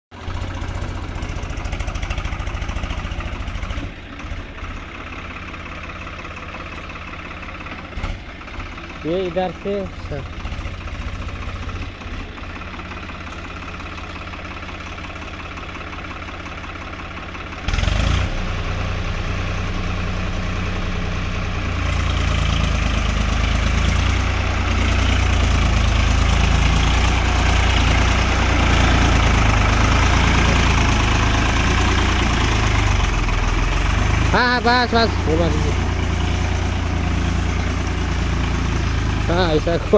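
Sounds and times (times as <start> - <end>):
tractor engine running: 0.1 - 39.9.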